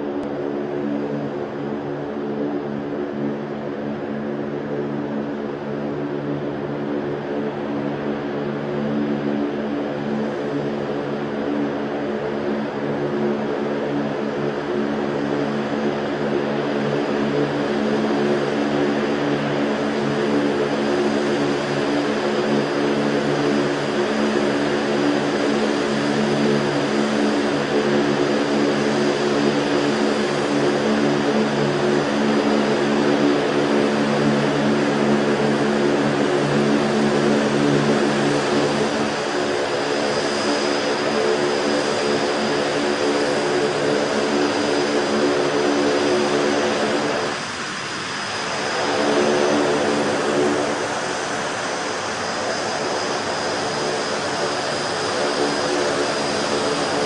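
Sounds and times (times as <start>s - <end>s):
tiltrotor aircraft engines droning: 0.0s - 57.0s.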